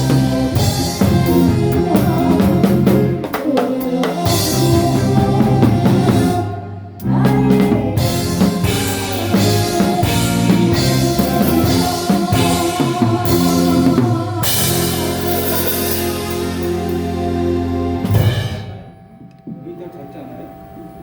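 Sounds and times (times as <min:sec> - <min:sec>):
live band playing with drums: 0:00.0 - 0:18.9.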